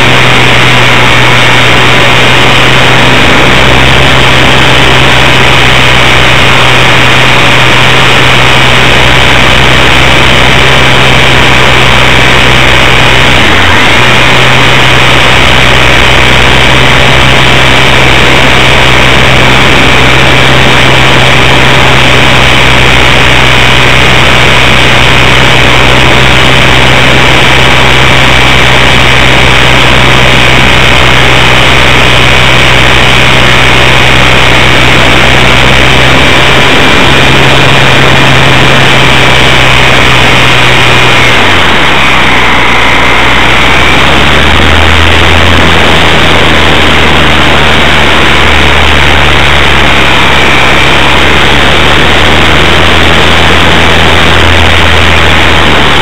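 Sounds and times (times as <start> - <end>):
electric motor whine: 0.0 - 56.0
rush of air: 0.0 - 56.0.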